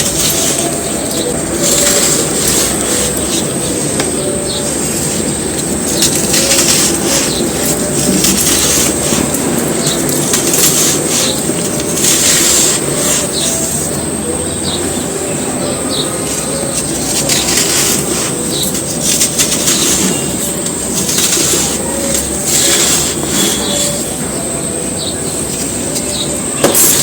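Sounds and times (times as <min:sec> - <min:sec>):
cones crunching by hand: 0:00.0 - 0:14.2, 0:15.9 - 0:24.4.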